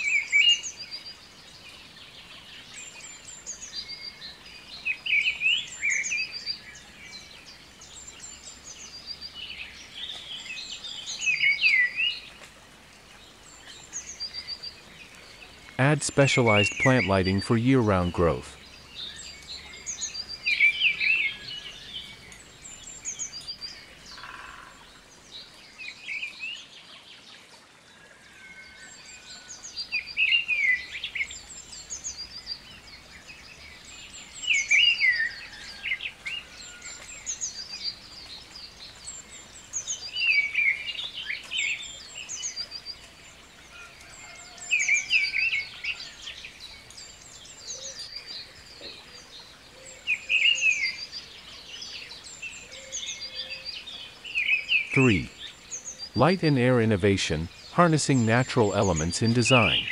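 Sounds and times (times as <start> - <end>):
birds chirping: 0.0 - 27.4, 28.3 - 59.9.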